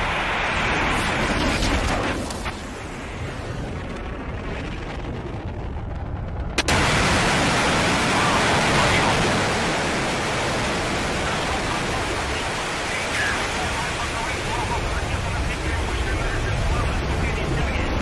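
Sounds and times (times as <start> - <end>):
rocket exhaust rumble: 0.0 - 18.0.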